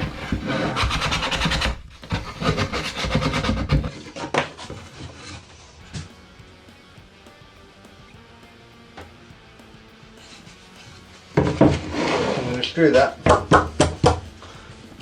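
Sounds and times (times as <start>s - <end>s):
hand tool rasping wood: 0.0s - 6.8s, 9.7s - 15.0s.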